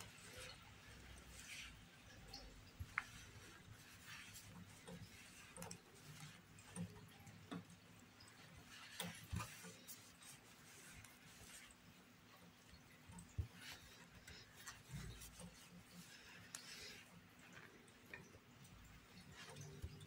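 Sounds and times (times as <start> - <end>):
yarn and crochet hook rustling: 0.0 - 20.0.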